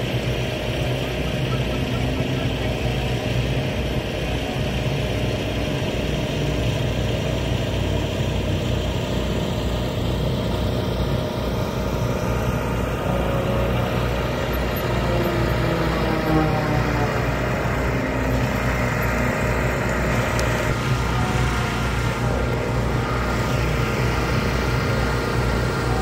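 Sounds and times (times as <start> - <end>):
engine pulsing hum: 0.0 - 26.0.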